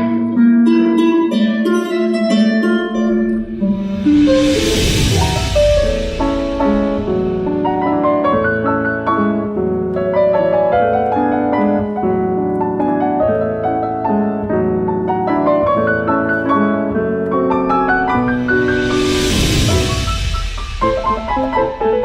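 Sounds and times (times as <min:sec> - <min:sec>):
piano playing: 0:01.7 - 0:22.0.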